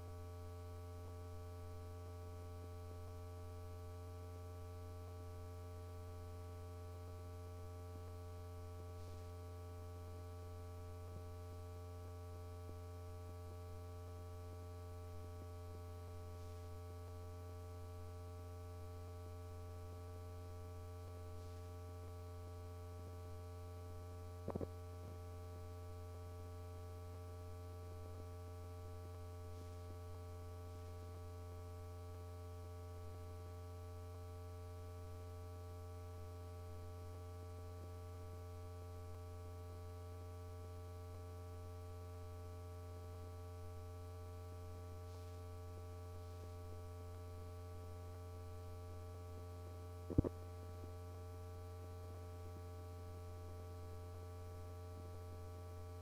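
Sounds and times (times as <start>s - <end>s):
electrical hum with hiss: 0.0s - 56.0s.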